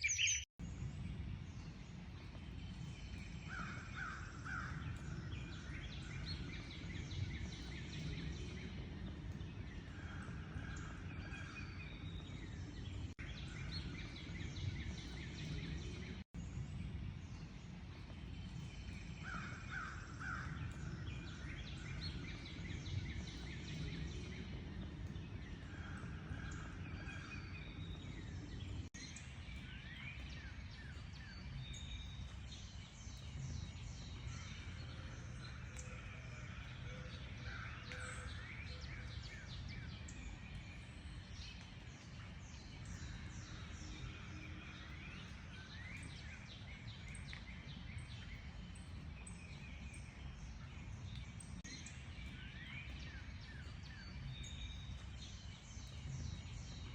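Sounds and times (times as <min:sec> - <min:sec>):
small birds chirping and trilling: 0:00.0 - 0:00.5, 0:01.6 - 0:56.9.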